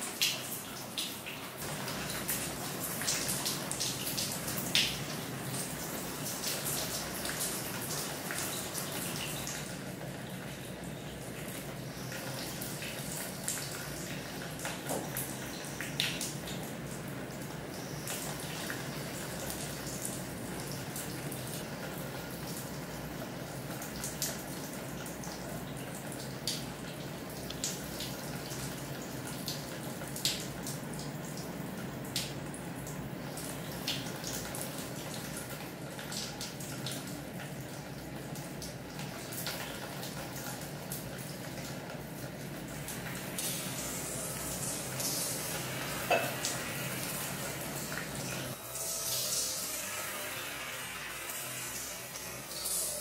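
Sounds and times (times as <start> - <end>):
water running: 0.0 - 53.0.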